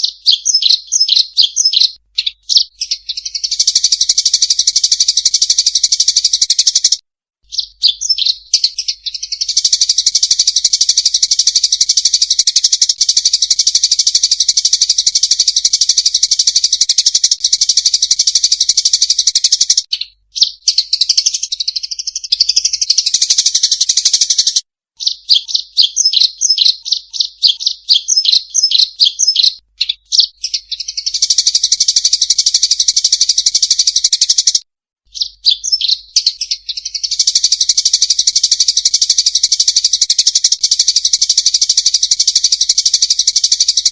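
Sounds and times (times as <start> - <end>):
sparrows chirping chatter: 0.0 - 43.9.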